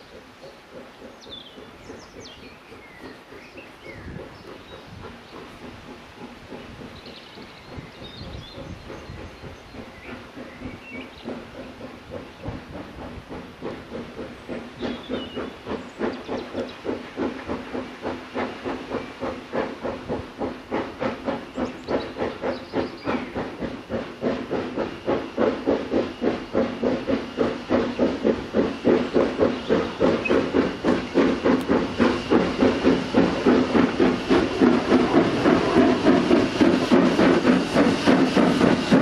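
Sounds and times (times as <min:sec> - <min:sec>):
hiss of steam: 0:00.0 - 0:39.0
steam locomotive chuffing: 0:00.0 - 0:39.0.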